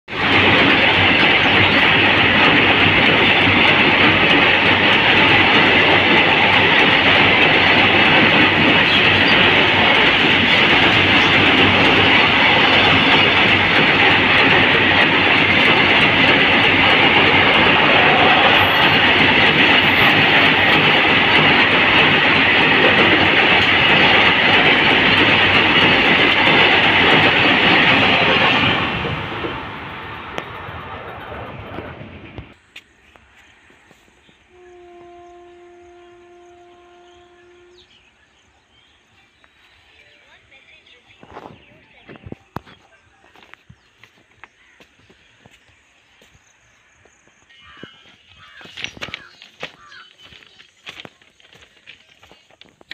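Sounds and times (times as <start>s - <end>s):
freight train rumbling over bridge: 0.1s - 52.9s.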